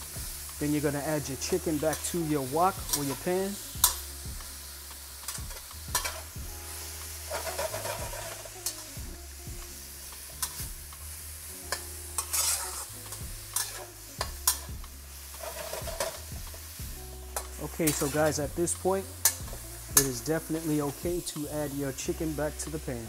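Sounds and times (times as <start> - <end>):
vegetables sizzling in a wok: 0.0 - 23.0.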